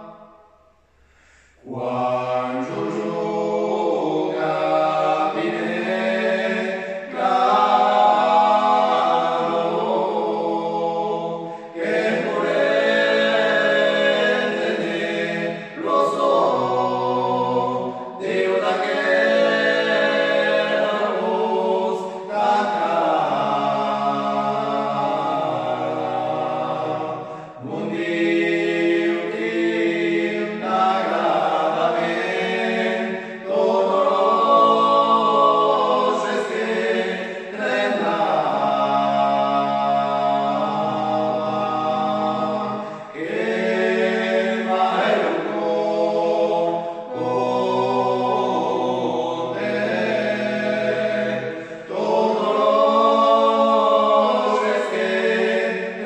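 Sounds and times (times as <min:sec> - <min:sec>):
men singing a cappella harmony: 0:01.1 - 0:56.0.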